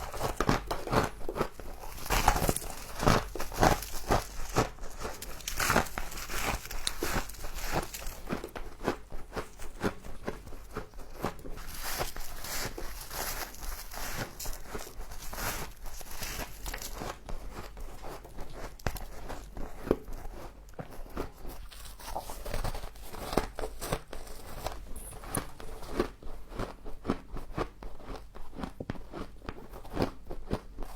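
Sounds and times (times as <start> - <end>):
frost crunching while chewed: 0.0 - 30.9.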